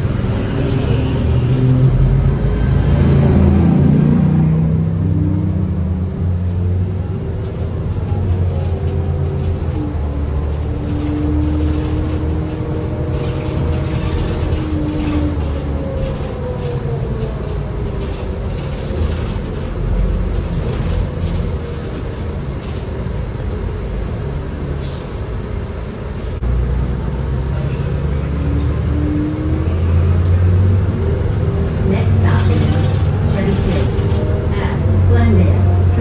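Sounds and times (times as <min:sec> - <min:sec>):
bus engine low rumble: 0:00.0 - 0:36.0.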